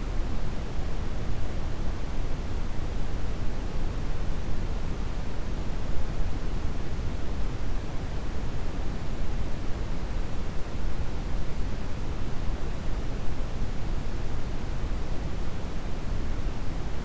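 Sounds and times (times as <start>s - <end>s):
brown noise hiss: 0.0s - 17.0s.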